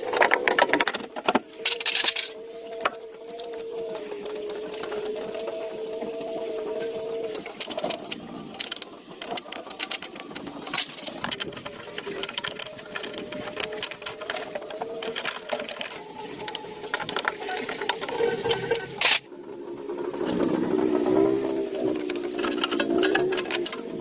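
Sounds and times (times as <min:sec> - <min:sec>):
rapid mechanical clicking and tapping: 0:00.0 - 0:24.0.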